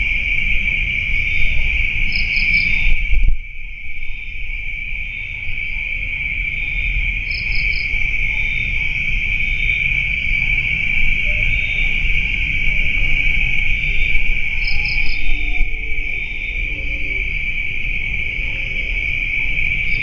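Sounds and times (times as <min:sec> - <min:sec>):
high-pitched insect chorus: 0:00.0 - 0:20.0
insect triple chirp: 0:00.0 - 0:20.0
low rumbling noise: 0:00.0 - 0:20.0.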